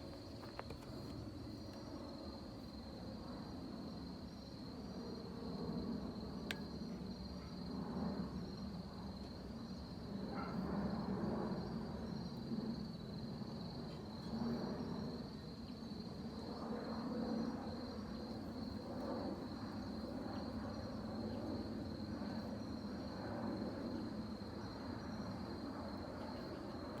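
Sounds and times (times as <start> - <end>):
insect trill: 0.0 - 27.0.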